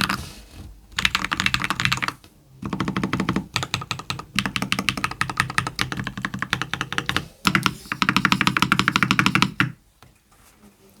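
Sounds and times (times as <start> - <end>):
mechanical keyboard typing: 0.0 - 0.2, 1.0 - 9.8.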